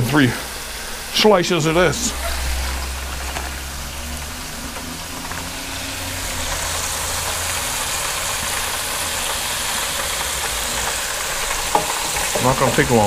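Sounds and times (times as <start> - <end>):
bacon sizzling in hot oil: 0.0 - 13.0.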